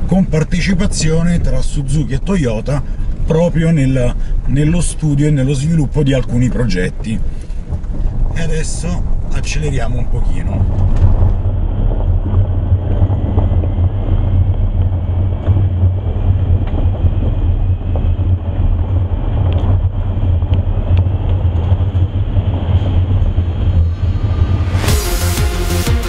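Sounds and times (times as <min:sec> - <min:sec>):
tyres rumbling over gravel: 0:00.0 - 0:23.9
heavy wind noise: 0:00.0 - 0:26.0.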